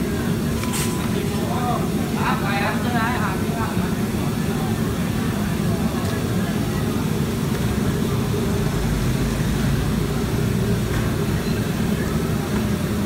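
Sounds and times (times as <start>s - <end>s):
gas burners rumbling: 0.0s - 13.0s.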